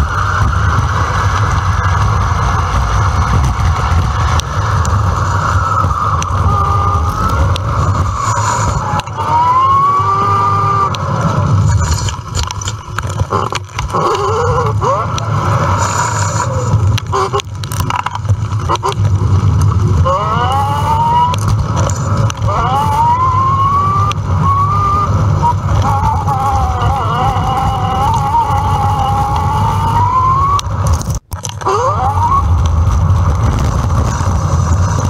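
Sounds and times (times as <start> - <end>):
short whines rising and falling: 0.0 - 17.4, 19.8 - 31.0, 31.6 - 33.5
wind buffeting microphone: 0.0 - 35.0.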